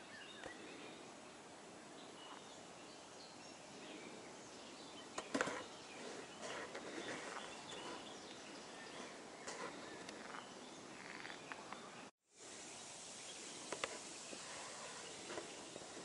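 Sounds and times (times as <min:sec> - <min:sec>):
distant birds chirping: 0:00.0 - 0:16.0.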